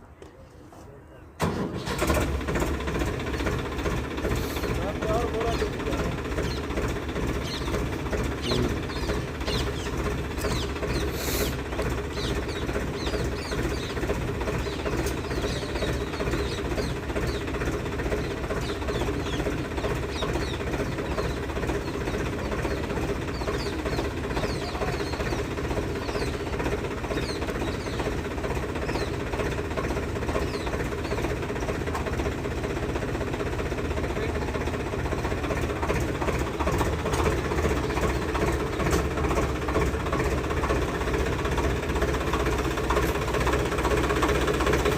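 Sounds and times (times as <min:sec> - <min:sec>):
diesel engine running: 0:01.4 - 0:44.9.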